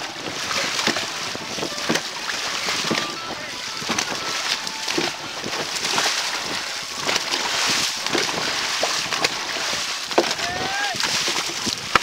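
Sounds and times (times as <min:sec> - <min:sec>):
paddles splashing water: 0:00.0 - 0:12.0
rushing water: 0:00.0 - 0:12.0.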